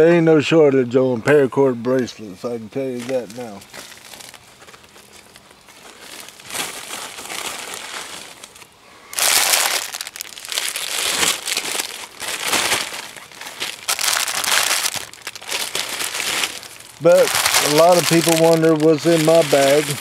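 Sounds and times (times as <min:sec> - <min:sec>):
plastic bags crinkling: 0:02.9 - 0:20.0.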